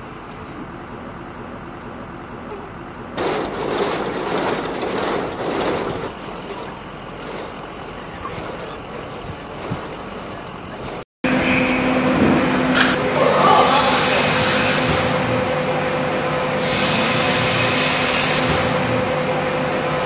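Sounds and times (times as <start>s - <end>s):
machine hum with fixed tones: 0.0s - 20.0s
wind: 0.0s - 20.0s.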